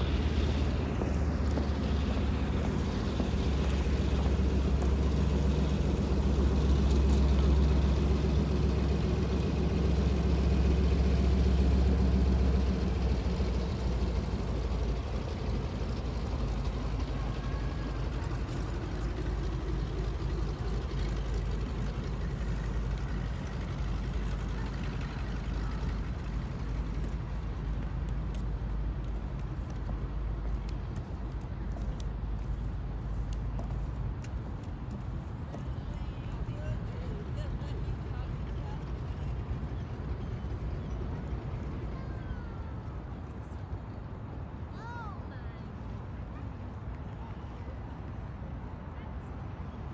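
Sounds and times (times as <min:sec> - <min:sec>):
floatplane engine and propeller drone: 0:00.0 - 0:49.9.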